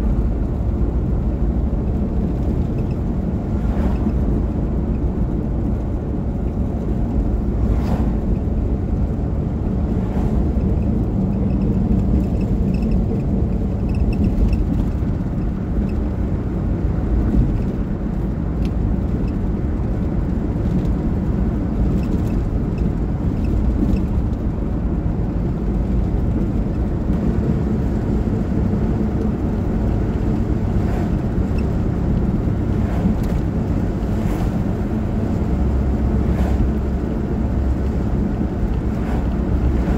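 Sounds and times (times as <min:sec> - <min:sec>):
car driving interior rumble: 0:00.0 - 0:39.9.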